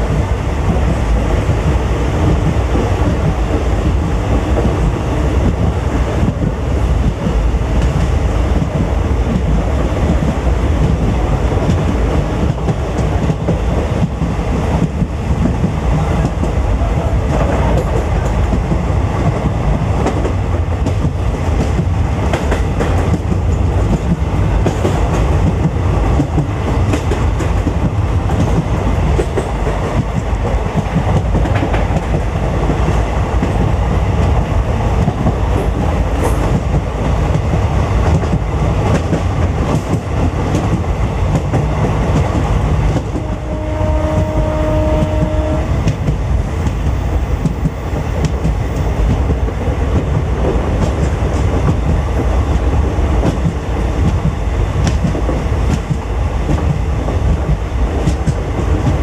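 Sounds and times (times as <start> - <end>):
train coach rumble: 0.0 - 59.0.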